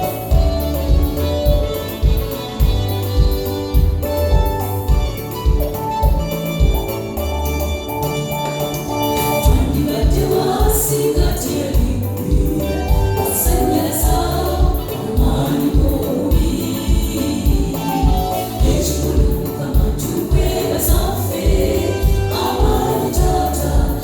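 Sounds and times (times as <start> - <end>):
gospel choir singing: 0.0 - 4.3, 7.9 - 24.0
instrumental backing with beat: 0.0 - 24.0.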